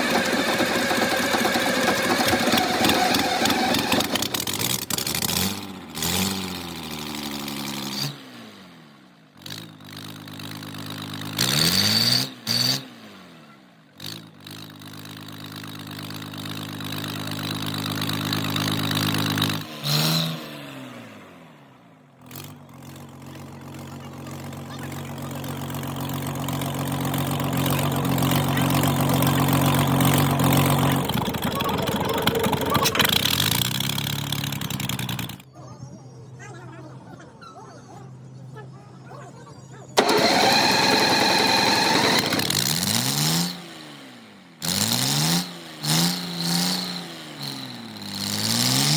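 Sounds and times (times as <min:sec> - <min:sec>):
diesel engine starting and running: 0:00.0 - 0:48.9.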